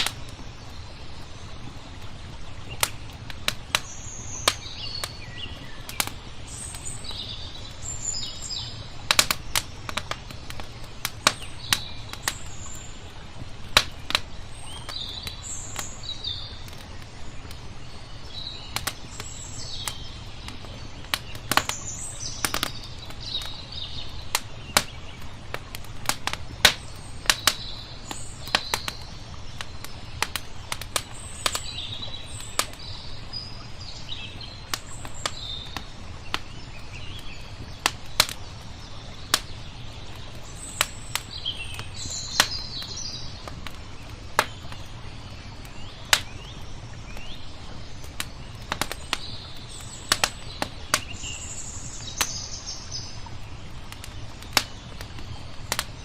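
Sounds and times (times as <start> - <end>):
sharp fire pops: 0.0 - 0.5, 2.6 - 7.7, 8.6 - 16.0, 18.7 - 32.9, 34.6 - 46.6, 48.0 - 51.4, 52.0 - 52.6, 53.8 - 56.0
small birds chirping: 0.0 - 56.0
wood fire crackling: 0.0 - 56.0.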